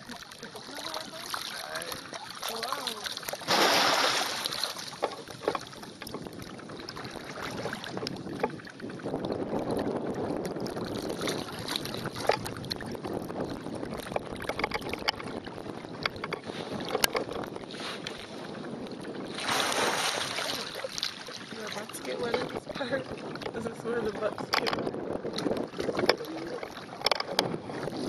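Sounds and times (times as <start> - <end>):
water sloshing and splashing: 0.0 - 28.0
wind buffeting microphone: 0.0 - 28.0.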